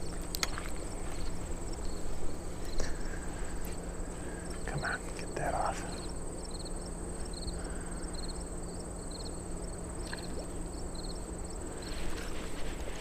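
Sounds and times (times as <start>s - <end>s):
insects trilling and chirping: 0.0s - 13.0s
low steady hum: 0.0s - 13.0s.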